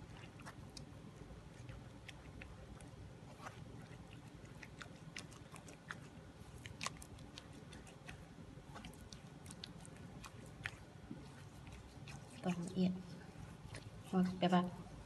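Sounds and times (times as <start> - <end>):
wet batter squelching through sieve: 0.0 - 15.0.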